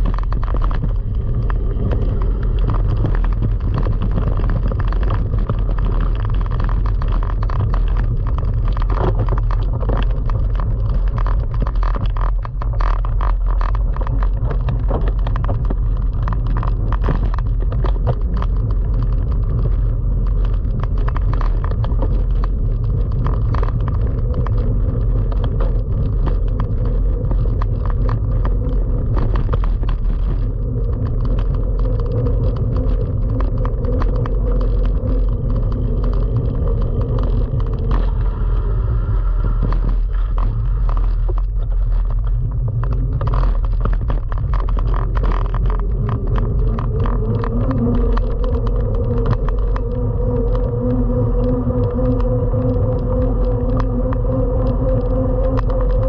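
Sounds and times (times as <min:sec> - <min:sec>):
bike clicks and rattles: 0:00.0 - 0:56.0
tyres rumbling on dirt: 0:00.0 - 0:56.0
wind rush on microphone: 0:00.0 - 0:56.0.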